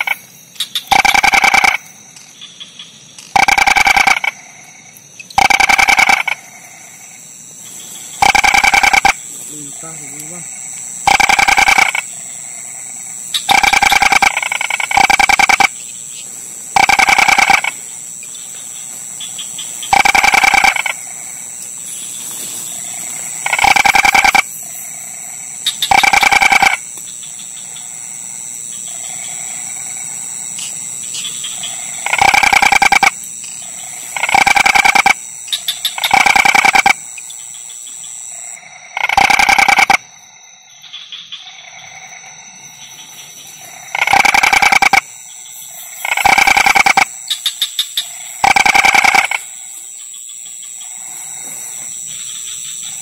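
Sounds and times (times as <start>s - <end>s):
toad trilling: 0.0s - 7.2s, 8.2s - 15.8s, 16.7s - 17.9s, 19.2s - 21.4s, 22.8s - 28.1s, 28.8s - 37.5s, 38.3s - 49.7s.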